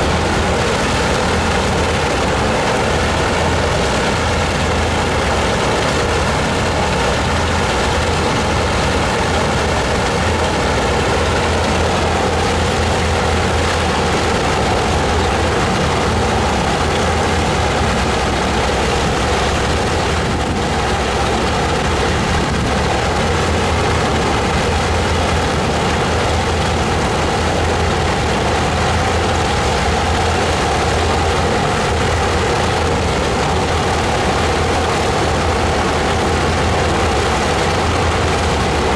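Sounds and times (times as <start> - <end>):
radial aircraft engines idling: 0.0 - 38.9.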